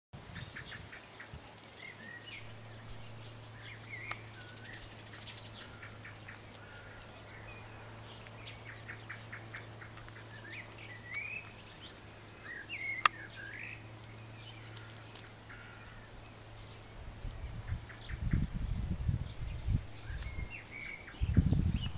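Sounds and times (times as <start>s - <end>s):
songbirds chirping and singing: 0.2s - 21.9s
steady low hum: 2.1s - 21.9s.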